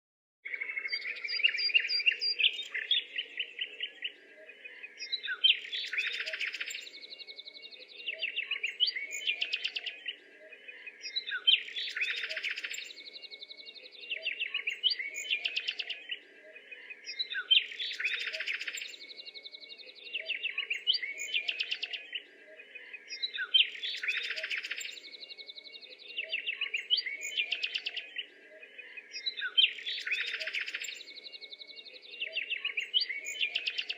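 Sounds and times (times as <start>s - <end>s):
birds chirping and twittering: 0.4s - 33.9s.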